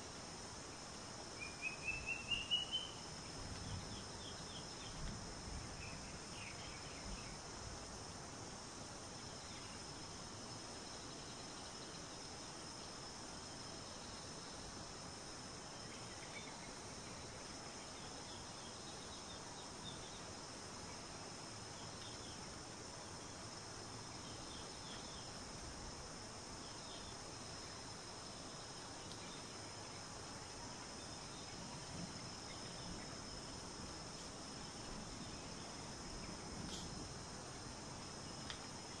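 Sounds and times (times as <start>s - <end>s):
high-pitched insect chorus: 0.0s - 39.0s.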